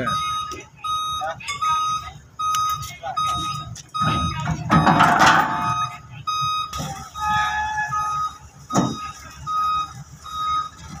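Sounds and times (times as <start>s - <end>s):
back-up alarm beeping: 0.0s - 11.0s
diesel engine running: 0.0s - 11.0s.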